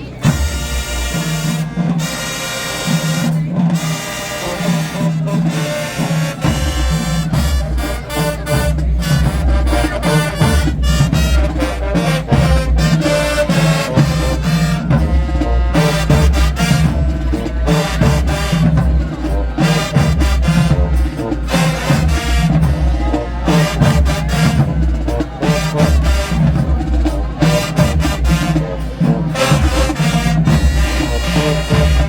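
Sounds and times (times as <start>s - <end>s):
bass drums and percussion: 0.0s - 32.0s
marching band playing: 0.0s - 32.0s.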